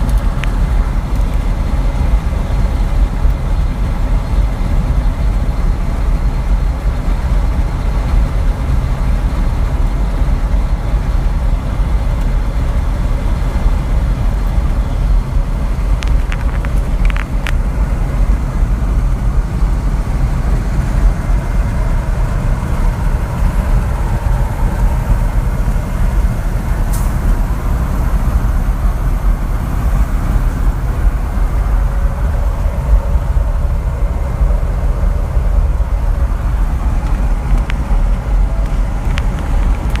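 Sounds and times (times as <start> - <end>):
truck engine and road noise: 0.0 - 40.0.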